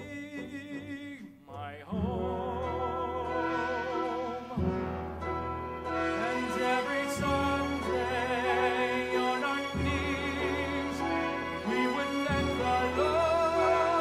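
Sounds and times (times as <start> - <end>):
orchestral accompaniment: 0.0 - 14.0.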